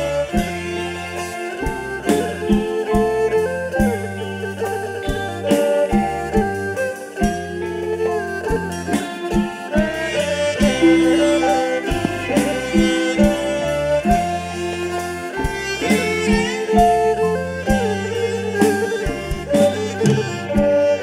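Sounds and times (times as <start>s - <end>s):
drum kit steady beat: 0.0s - 21.0s
electric bass: 0.0s - 21.0s
keyboard: 0.0s - 21.0s
melody line: 0.0s - 21.0s.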